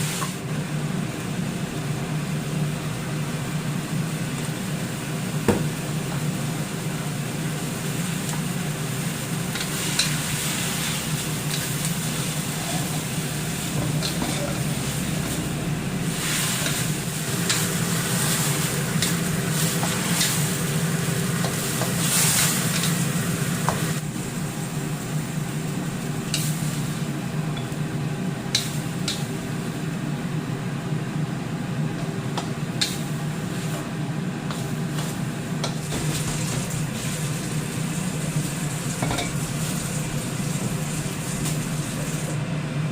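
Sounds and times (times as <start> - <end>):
food sizzling in a pan: 0.0 - 0.5, 1.8 - 29.9, 32.7 - 42.4
steady low hum: 0.0 - 42.9.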